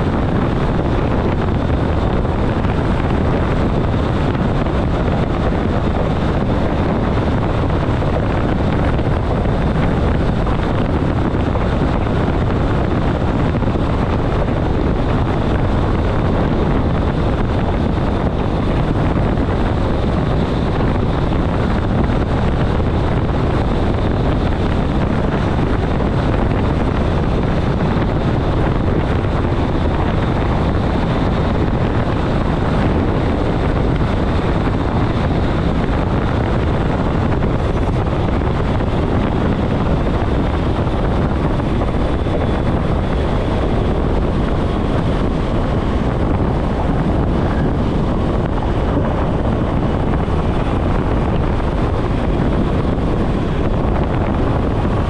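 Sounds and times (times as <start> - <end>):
train rolling and wind noise: 0.0 - 55.0.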